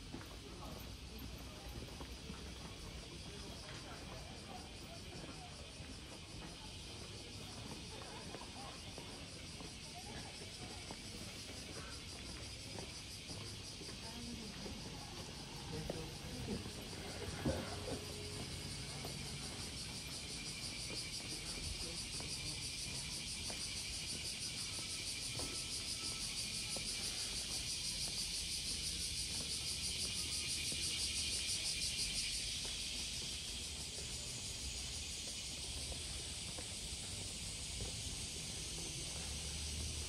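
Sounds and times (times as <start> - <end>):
cicadas buzzing: 0.7 - 40.0.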